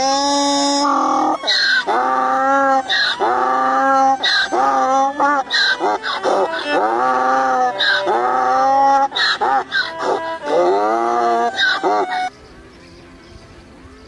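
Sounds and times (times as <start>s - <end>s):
animal calling: 0.0s - 13.4s.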